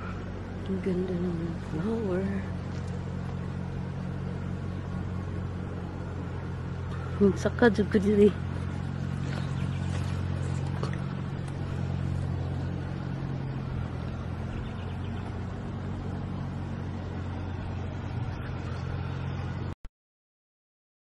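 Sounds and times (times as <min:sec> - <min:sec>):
engine running steadily: 0:00.0 - 0:19.8.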